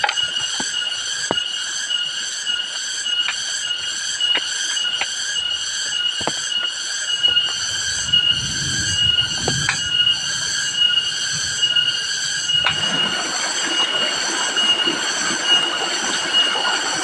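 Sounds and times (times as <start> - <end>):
insects chorus pulsing: 0.0 - 17.0.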